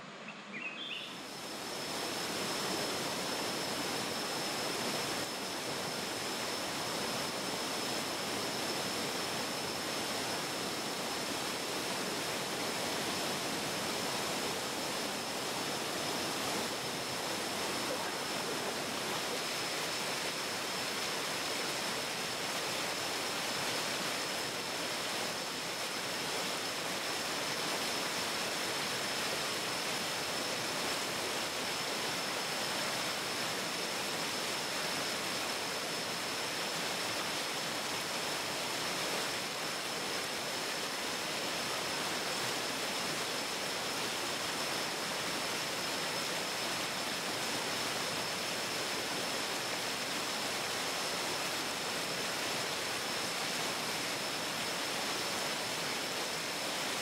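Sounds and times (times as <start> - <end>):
forest stream rushing: 0.0 - 57.0.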